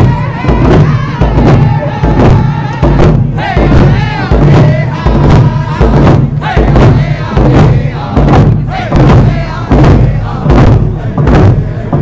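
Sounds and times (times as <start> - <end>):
crowd singing and chanting: 0.0 - 12.0
hand drums beating: 0.0 - 12.0.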